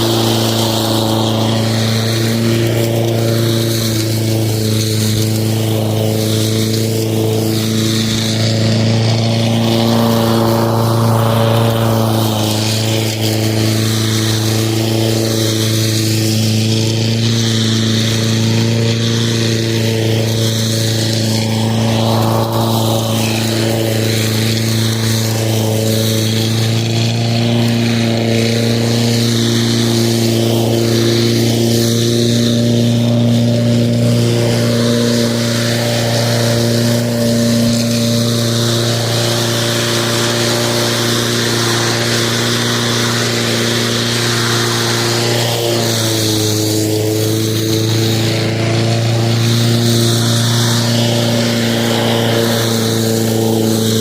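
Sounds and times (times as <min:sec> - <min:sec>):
lawn mower running: 0:00.0 - 0:54.0.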